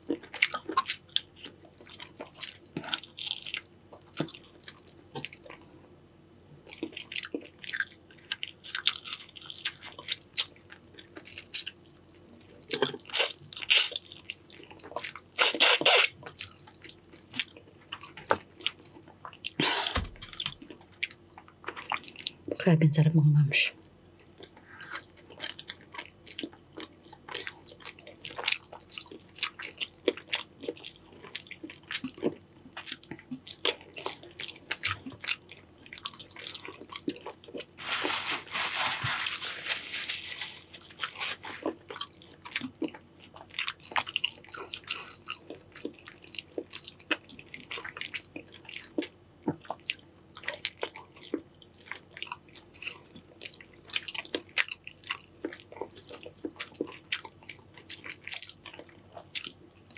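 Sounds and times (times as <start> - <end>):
crunching and wet chewing: 0.0 - 22.6, 23.8 - 59.9.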